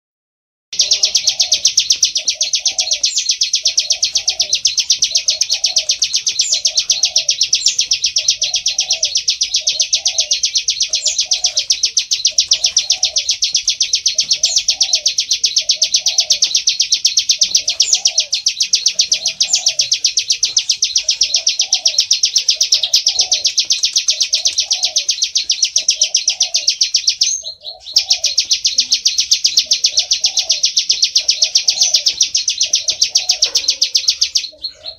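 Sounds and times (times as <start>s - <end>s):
bird singing a rapid buzzing trill: 0.8s - 34.9s.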